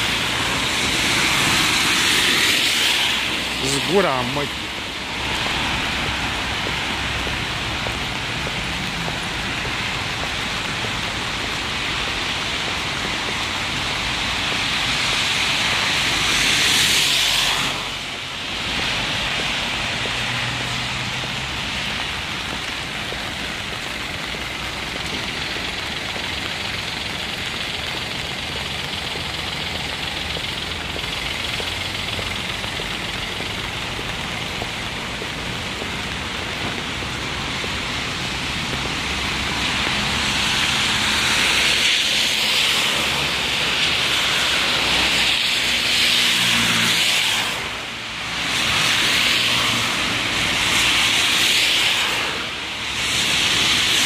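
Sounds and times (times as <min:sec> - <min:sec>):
city traffic rumble: 0:00.0 - 0:54.0
rain hissing: 0:00.0 - 0:54.0.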